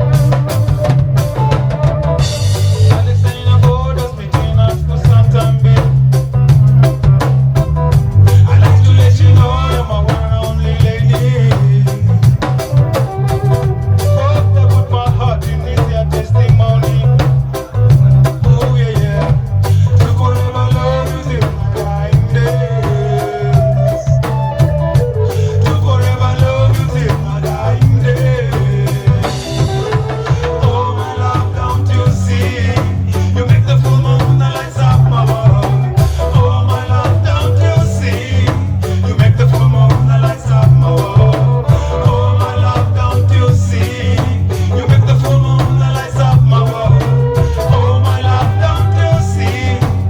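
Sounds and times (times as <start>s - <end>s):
heavy bass line: 0.0s - 50.0s
live reggae band playing: 0.0s - 50.0s
steady drum beat: 0.0s - 50.0s
sung lead vocal: 0.0s - 50.0s.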